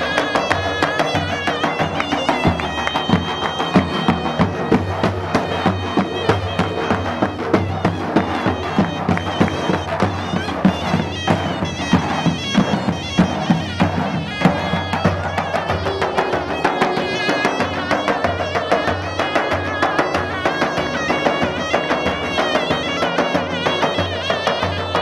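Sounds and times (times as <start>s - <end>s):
reed pipe melody: 0.0s - 25.0s.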